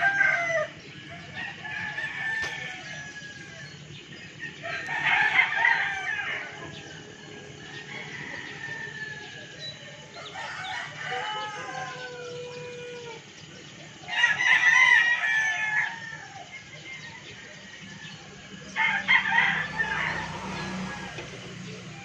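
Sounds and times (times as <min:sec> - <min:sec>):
roosters crowing: 0:00.0 - 0:22.0.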